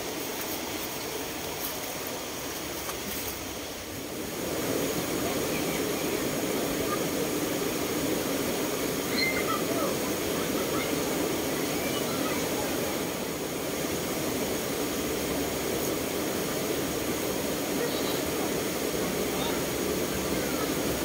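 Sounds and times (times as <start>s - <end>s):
river water flowing over rocks: 0.0s - 21.0s.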